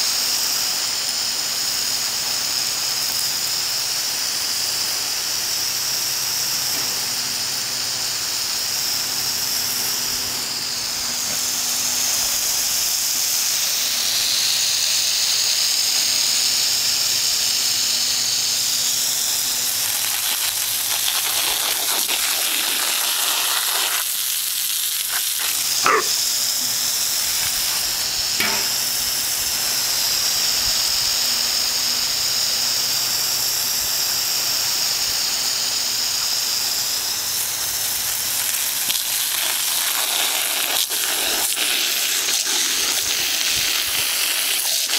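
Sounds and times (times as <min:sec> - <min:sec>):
garden hose spraying: 0:00.0 - 0:44.9.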